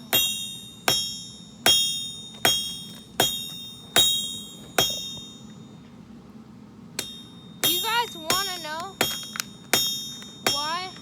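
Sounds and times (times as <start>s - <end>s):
hammer striking steel on anvil: 0.0s - 5.5s, 7.0s - 11.0s.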